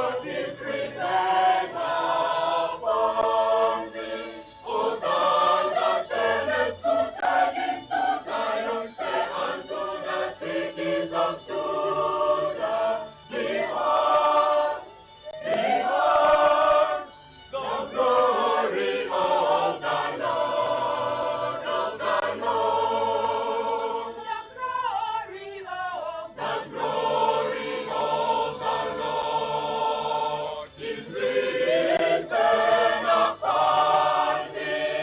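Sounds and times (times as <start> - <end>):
choir singing in parts: 0.0 - 35.0.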